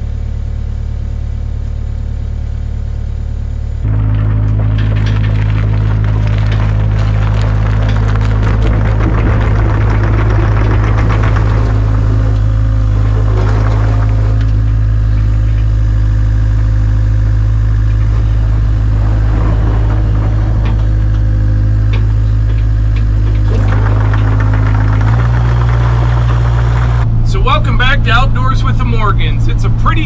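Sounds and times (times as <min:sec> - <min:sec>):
excavator diesel engine running: 0:00.0 - 0:30.0
excavator clatter: 0:03.8 - 0:30.0.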